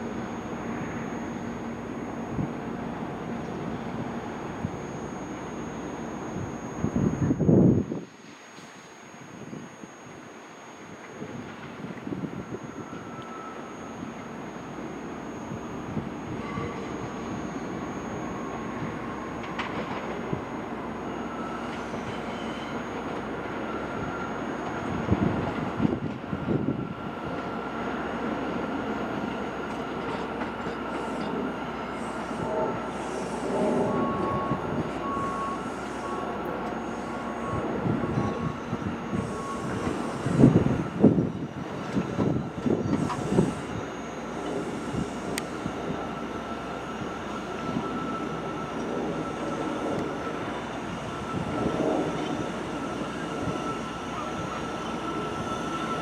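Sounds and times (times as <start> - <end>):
faint steady whine: 0.0 - 56.0
rumble of train wheels on rail: 0.0 - 56.0.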